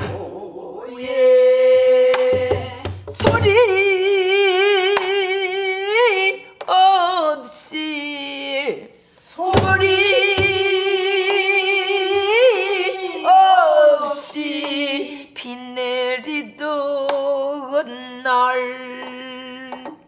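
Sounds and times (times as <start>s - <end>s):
woman singing with vibrato: 0.0s - 20.0s.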